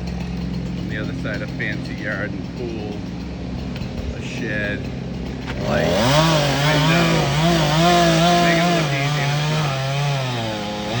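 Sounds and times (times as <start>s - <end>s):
chainsaw cutting tree trunk: 0.0s - 11.0s.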